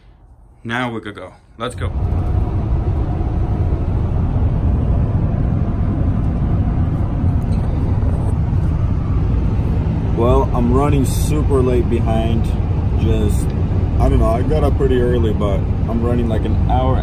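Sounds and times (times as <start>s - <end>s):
vehicle driving on road: 1.7s - 17.0s.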